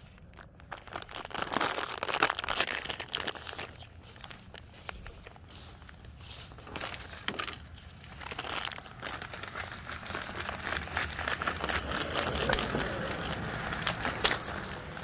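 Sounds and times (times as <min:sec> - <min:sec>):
footsteps crunching through leaves: 0:02.6 - 0:15.0.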